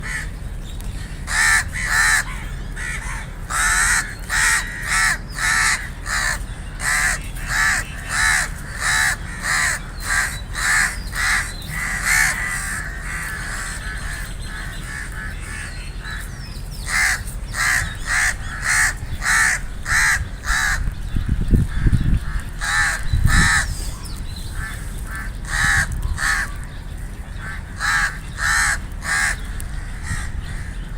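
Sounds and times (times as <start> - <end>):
crows cawing: 0.0 - 0.4, 1.3 - 20.9, 21.7 - 26.7, 27.3 - 30.9.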